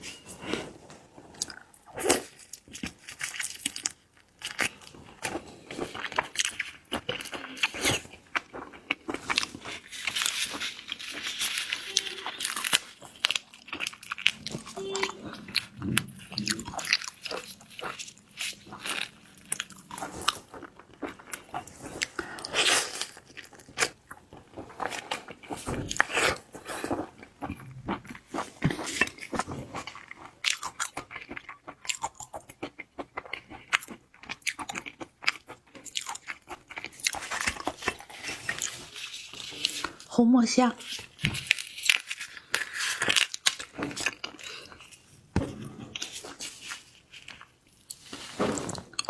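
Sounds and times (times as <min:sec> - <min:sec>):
person chewing and crunching: 0:00.0 - 0:40.1, 0:40.8 - 0:49.0.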